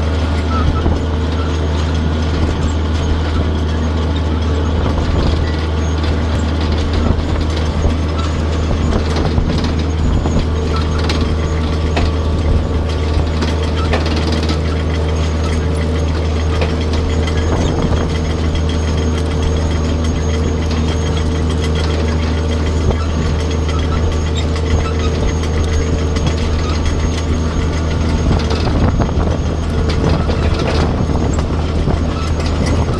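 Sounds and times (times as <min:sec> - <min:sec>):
harvester mechanical clatter: 0:00.0 - 0:32.9
tractor engine running: 0:00.0 - 0:32.9.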